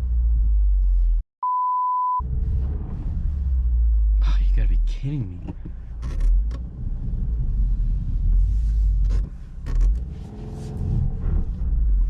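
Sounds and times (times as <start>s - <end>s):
car engine rumbling: 0.0s - 1.2s, 2.2s - 12.0s.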